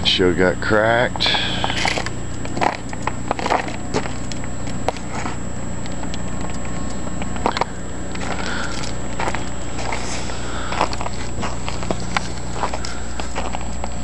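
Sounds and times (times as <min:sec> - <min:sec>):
steady low hum: 0:00.0 - 0:14.0
footsteps crunching on ice: 0:01.3 - 0:14.0.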